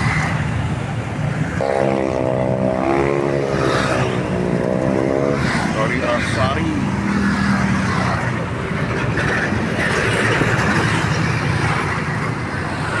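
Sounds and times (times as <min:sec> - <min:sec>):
bus engine humming: 0:00.0 - 0:13.0
street traffic: 0:00.0 - 0:13.0.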